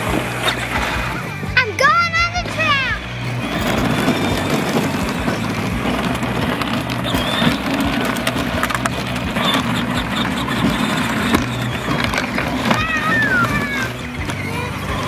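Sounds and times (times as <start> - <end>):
electric motors humming: 0.0 - 15.0
plastic wheels rumbling on asphalt: 0.0 - 15.0.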